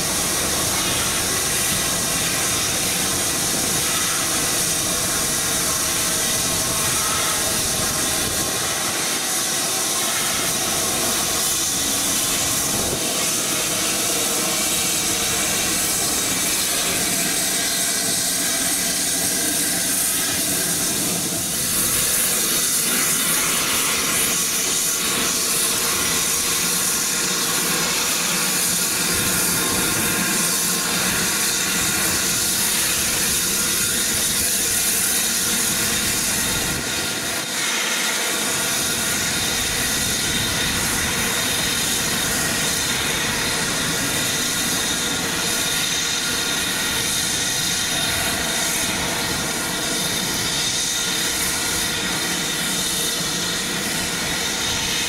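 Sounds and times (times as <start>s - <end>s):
steam locomotives hissing: 0.0s - 55.0s.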